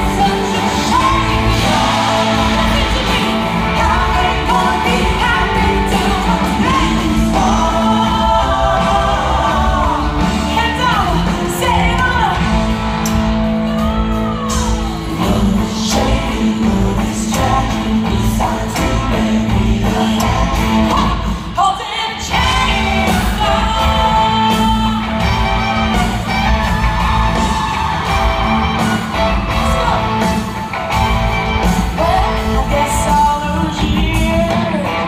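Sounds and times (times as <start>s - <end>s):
person singing: 0.0s - 12.8s, 13.6s - 30.6s, 31.7s - 35.0s
country-rock band music: 0.0s - 35.0s.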